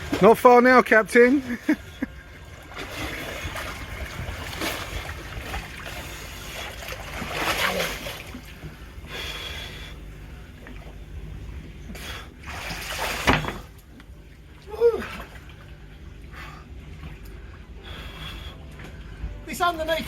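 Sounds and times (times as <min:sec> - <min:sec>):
low steady hum: 0:00.0 - 0:20.0
water splashing and lapping: 0:00.0 - 0:20.0.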